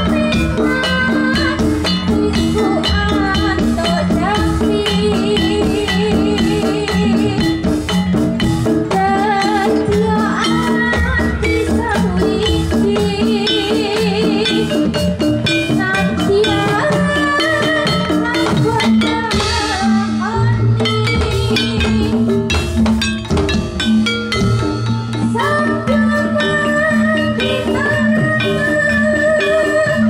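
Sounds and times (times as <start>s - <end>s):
woman singing into microphone: 0.0s - 7.9s, 8.8s - 22.6s, 25.2s - 30.0s
hand drum strokes: 0.0s - 30.0s
metallophones ringing: 0.0s - 30.0s.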